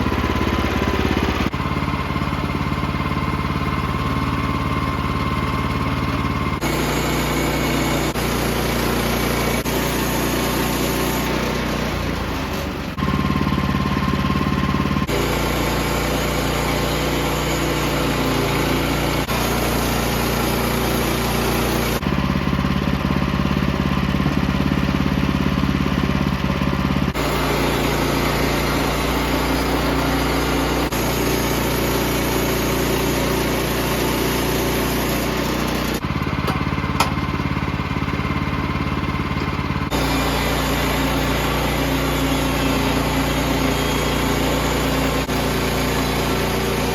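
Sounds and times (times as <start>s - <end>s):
small gasoline engine running: 0.0s - 46.9s.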